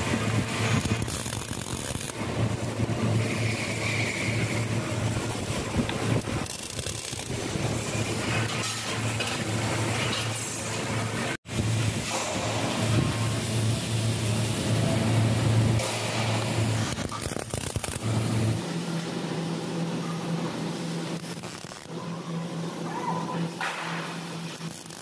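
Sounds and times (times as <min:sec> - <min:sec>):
welding arc crackling: 0:00.0 - 0:22.0, 0:23.5 - 0:25.0.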